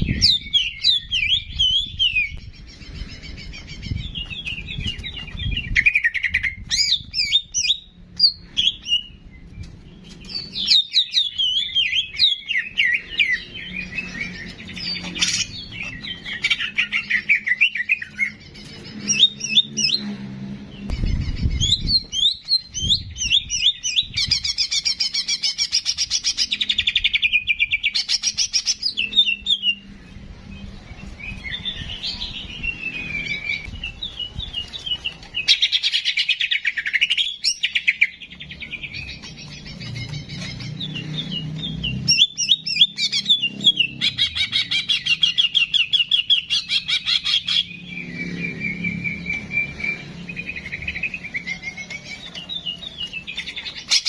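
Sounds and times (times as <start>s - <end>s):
songbird singing chirps and trills: 0.0s - 54.0s.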